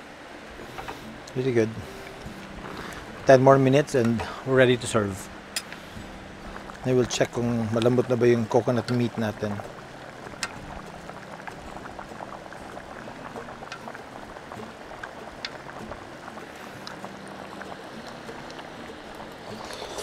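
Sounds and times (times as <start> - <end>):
soup bubbling at a simmer: 0.4 - 20.0.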